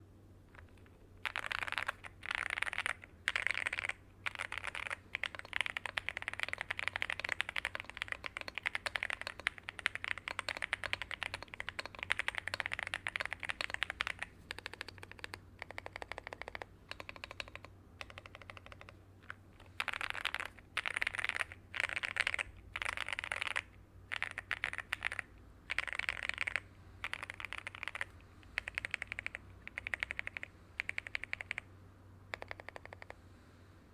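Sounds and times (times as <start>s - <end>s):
mechanical keyboard typing: 0.5s - 31.7s, 32.3s - 33.2s.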